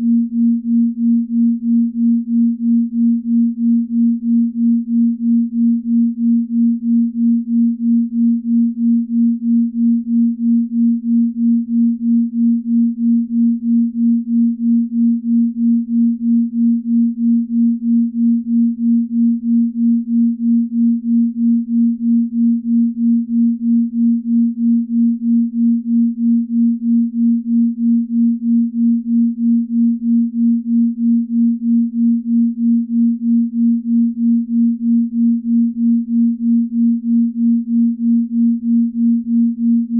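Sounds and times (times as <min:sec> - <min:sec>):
pulsing pure tone: 0:00.0 - 0:39.9.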